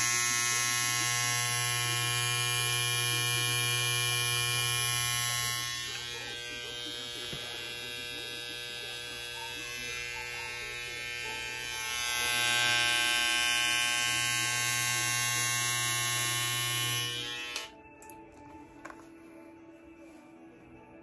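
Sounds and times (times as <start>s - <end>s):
electric hair trimmer buzzing: 0.0s - 17.8s.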